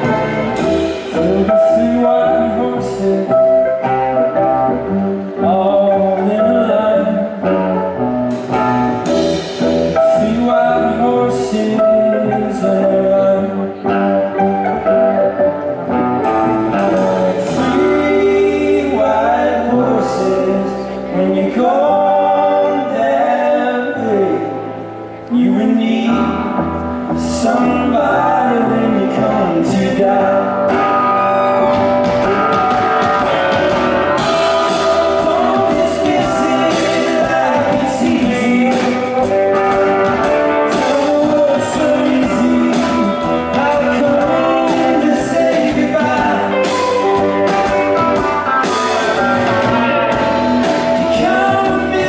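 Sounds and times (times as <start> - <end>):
live band playing: 0.0 - 52.0
person singing: 0.0 - 52.0.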